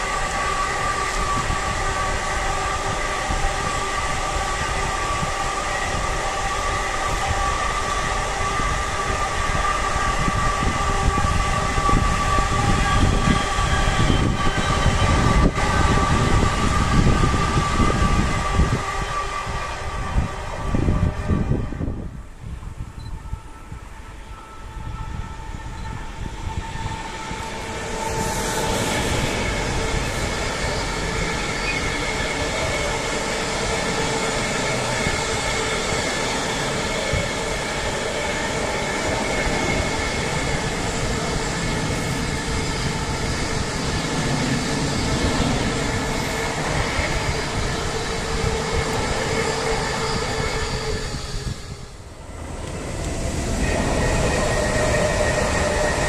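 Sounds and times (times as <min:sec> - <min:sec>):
freight train wheels rumbling: 0:00.0 - 0:56.0
second train approaching: 0:00.0 - 0:56.0.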